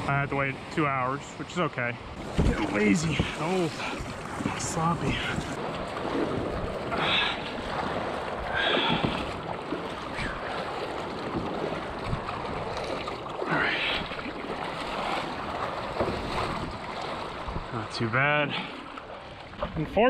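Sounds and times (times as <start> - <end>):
water washing along hull: 0.0 - 20.0
paddle strokes splashing water: 2.0 - 20.0.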